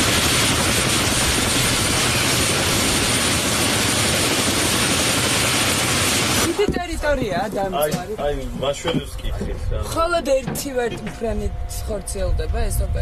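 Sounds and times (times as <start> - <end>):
helicopter turbine and rotor: 0.0 - 13.0.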